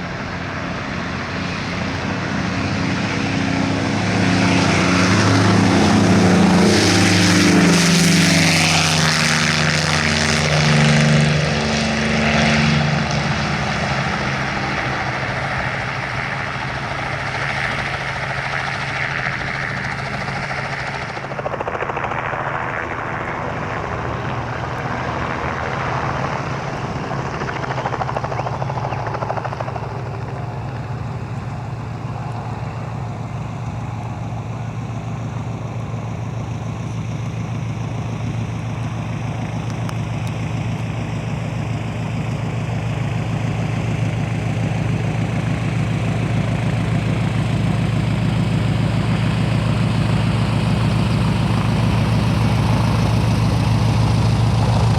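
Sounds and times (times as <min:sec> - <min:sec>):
propeller aircraft engine droning: 0:00.0 - 0:54.9.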